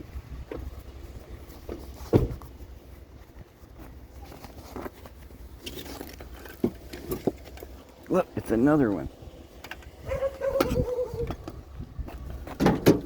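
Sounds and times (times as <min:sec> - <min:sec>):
low road rumble: 0:00.0 - 0:13.0.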